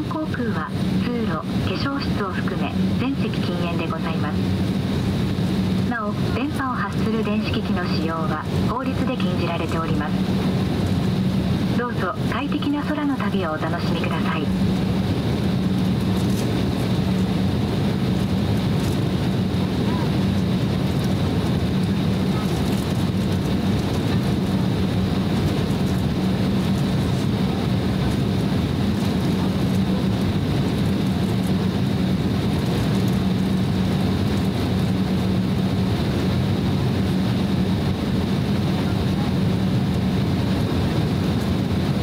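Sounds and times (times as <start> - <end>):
airliner cabin engine hum: 0.0 - 42.0
low steady drone: 0.0 - 42.0.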